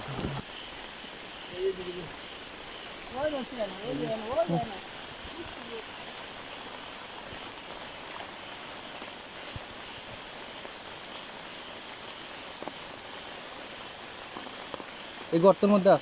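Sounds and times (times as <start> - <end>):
steady rain on wet ground: 0.0 - 16.0.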